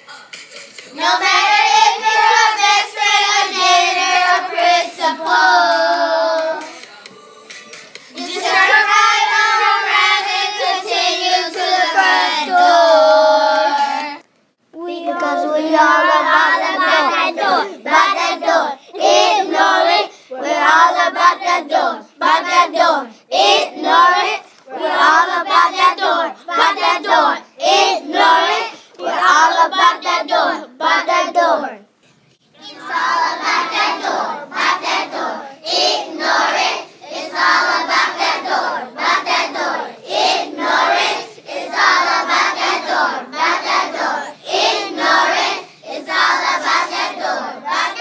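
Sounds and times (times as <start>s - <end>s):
children singing: 0.8s - 14.2s, 15.1s - 31.6s, 32.6s - 48.0s.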